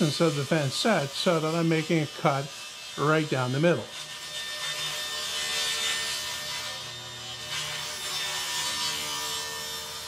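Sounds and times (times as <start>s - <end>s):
saw motor humming: 0.0s - 10.0s
table saw cutting plywood: 0.0s - 10.0s.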